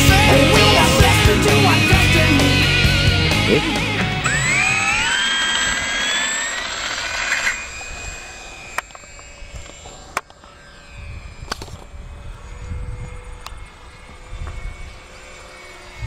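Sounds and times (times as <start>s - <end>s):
model plane motor whining: 0.0s - 16.0s.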